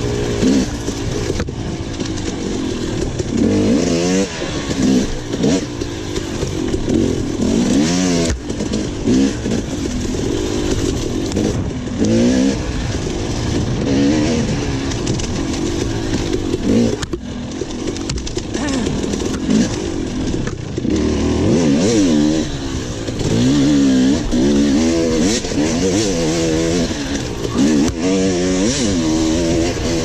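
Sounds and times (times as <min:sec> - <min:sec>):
dirt bike engine revving: 0:00.0 - 0:30.0
wind and terrain rush: 0:00.0 - 0:30.0.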